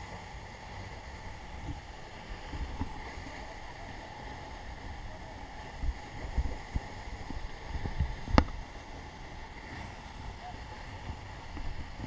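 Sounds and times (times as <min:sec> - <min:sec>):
waterfall rushing: 0:00.0 - 0:12.0
wind buffeting microphone: 0:01.3 - 0:12.0.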